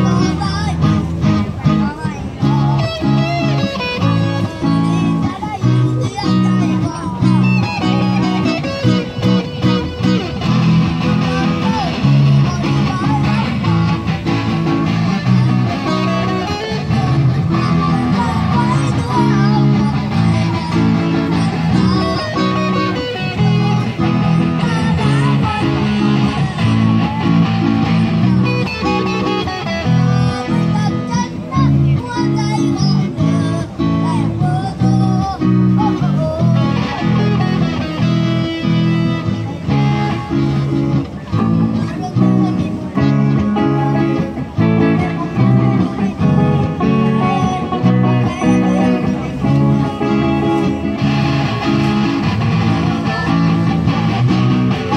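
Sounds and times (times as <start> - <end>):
guitar playing a song: 0.0 - 54.9.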